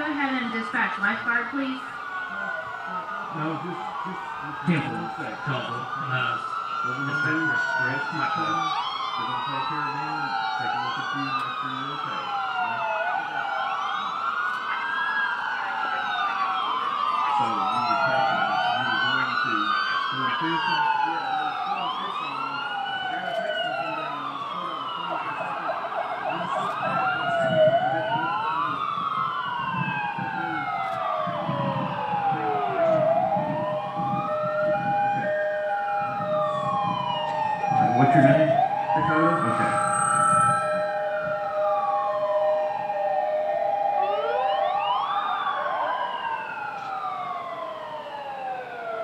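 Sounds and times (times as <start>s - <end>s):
sirens wailing: 0.0s - 49.0s.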